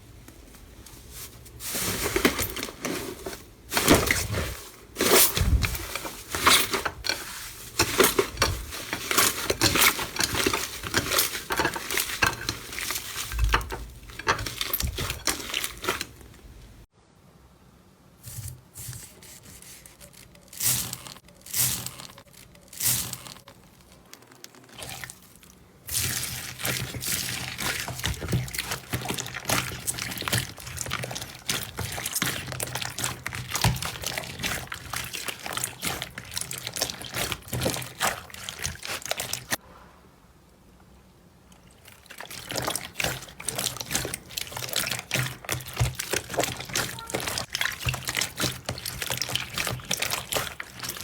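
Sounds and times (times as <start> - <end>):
slime squelching: 0.4 - 16.8, 18.2 - 39.7, 41.5 - 51.0.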